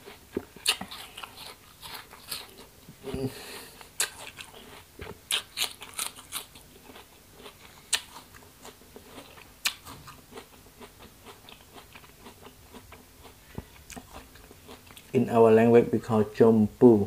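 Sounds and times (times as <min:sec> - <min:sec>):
apple crunching while chewing: 0:00.0 - 0:15.2.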